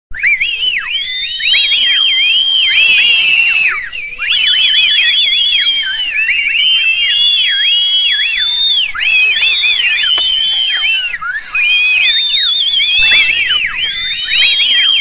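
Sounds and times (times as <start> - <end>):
crowd whistling: 0.1 - 15.0.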